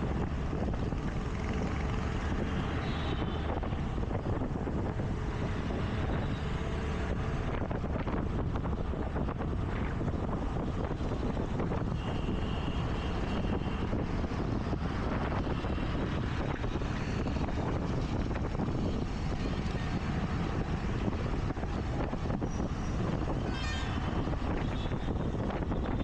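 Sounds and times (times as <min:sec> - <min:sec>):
road traffic: 0:00.0 - 0:26.0
wind buffeting microphone: 0:00.0 - 0:26.0.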